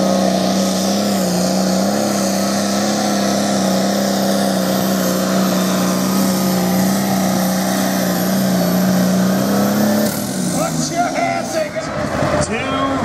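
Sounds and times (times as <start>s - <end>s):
tractor engine running flat out: 0.0s - 13.0s.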